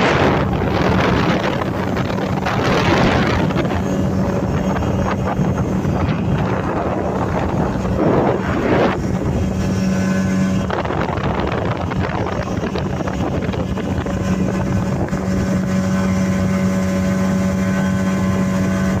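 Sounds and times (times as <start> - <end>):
motorboat engine running: 0.0 - 19.0
wind noise on microphone: 0.0 - 19.0.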